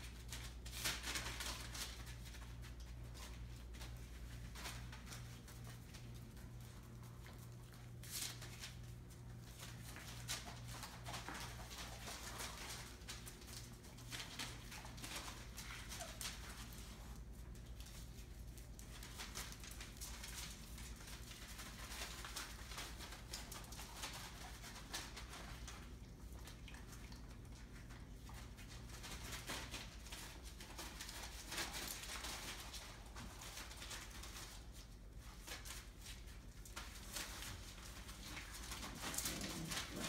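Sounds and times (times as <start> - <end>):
puppies' claws pattering on hard floor: 0.0 - 40.0.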